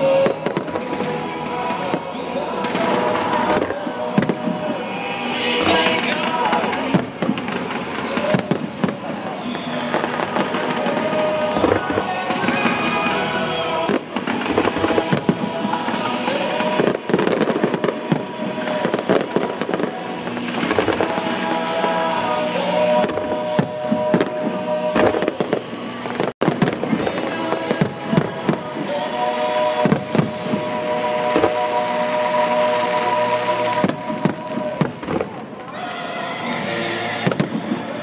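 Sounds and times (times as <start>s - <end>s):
fireworks bangs and crackles: 0.0s - 38.0s
music with long held notes: 0.0s - 38.0s.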